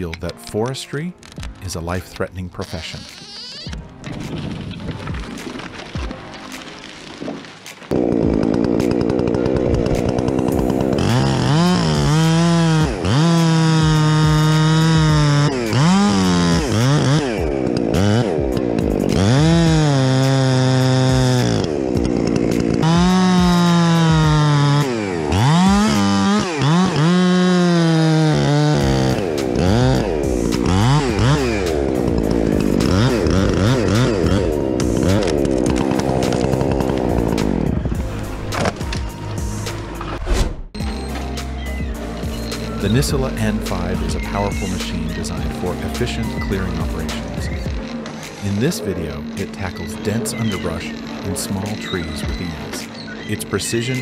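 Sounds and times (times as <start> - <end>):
chainsaw revving: 7.9 - 40.0, 40.8 - 54.0.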